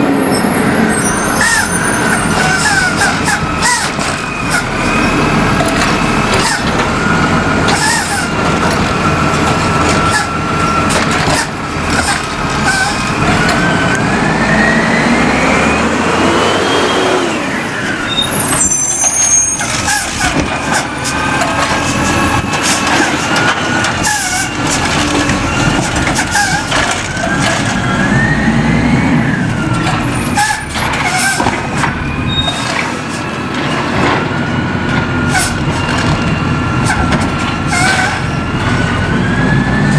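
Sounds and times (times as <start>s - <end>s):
hydraulics working: 0.0s - 39.9s
truck engine running: 0.0s - 39.9s.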